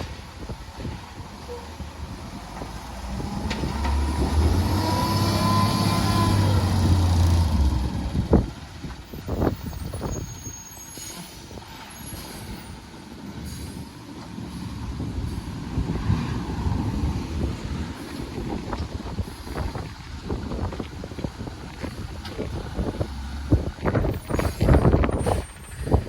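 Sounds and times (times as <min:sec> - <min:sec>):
garbage truck diesel engine passing: 0:00.0 - 0:26.0.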